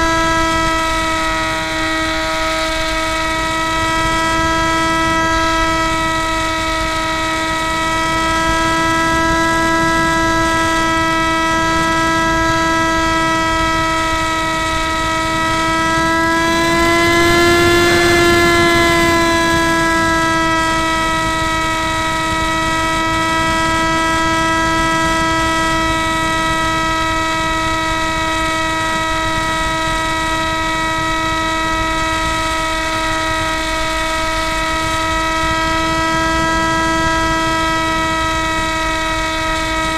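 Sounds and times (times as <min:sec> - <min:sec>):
model plane motor whine: 0:00.0 - 0:39.9.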